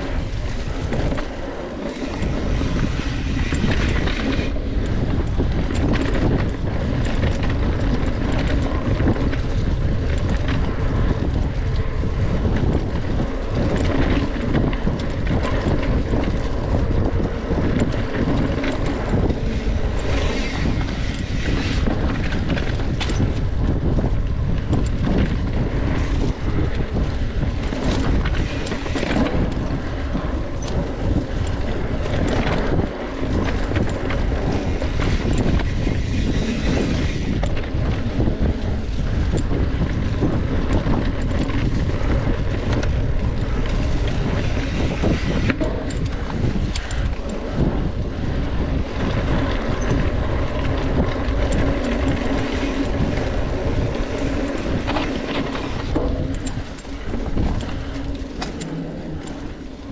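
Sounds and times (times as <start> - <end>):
bike rattling and knocking: 0.0 - 59.9
wind rushing over microphone: 0.0 - 59.9.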